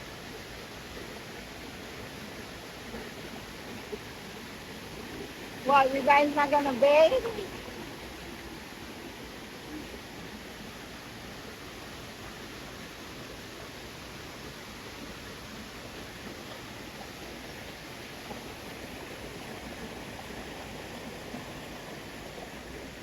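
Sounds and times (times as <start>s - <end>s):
waterfall rushing water: 0.0s - 23.0s.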